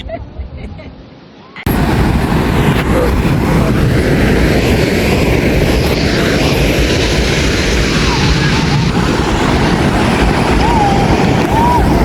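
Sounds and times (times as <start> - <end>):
wind buffeting microphone: 1.7 - 12.0.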